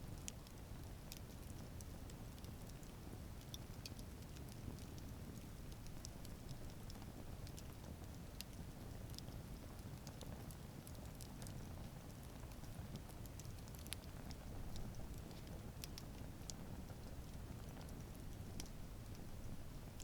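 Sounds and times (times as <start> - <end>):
low rumble of flame: 0.0 - 20.0
campfire crackling and popping: 0.1 - 20.0.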